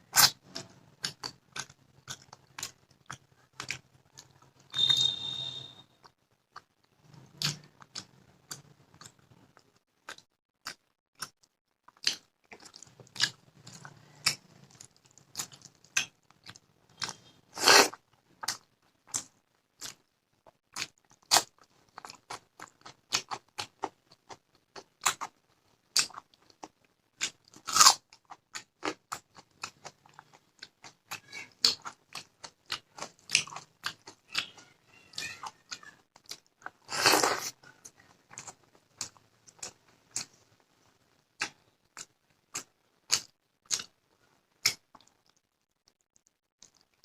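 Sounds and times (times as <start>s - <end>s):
person chewing crunchy food: 0.1s - 40.5s, 41.4s - 45.6s, 46.2s - 47.0s.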